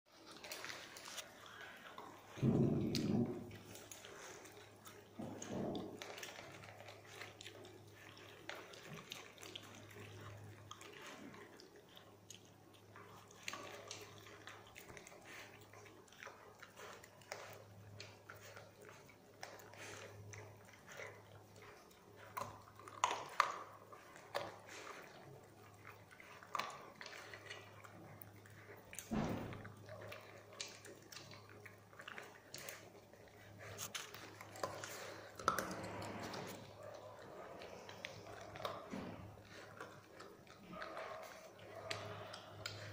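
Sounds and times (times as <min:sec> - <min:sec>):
dogs crunching kibble: 0:00.1 - 0:42.9.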